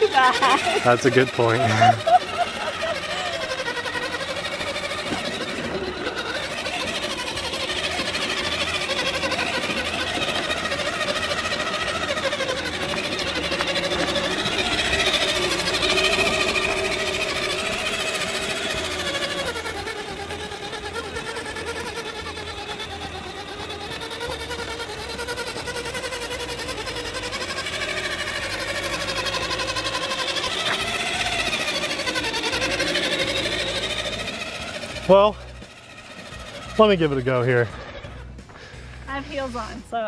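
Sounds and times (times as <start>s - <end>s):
rc car electric motor whining: 0.0s - 40.0s.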